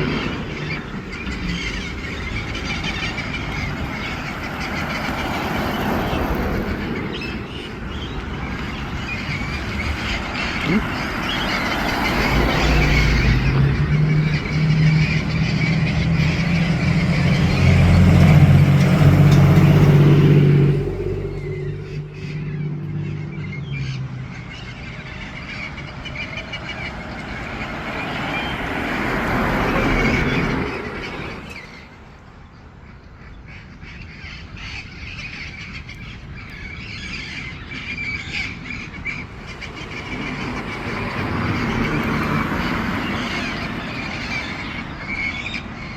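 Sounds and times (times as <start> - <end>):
parrots squawking and chirping: 0.0 - 17.8, 21.2 - 32.0, 32.9 - 45.9
large vehicle engine droning: 0.0 - 32.9, 35.8 - 45.9.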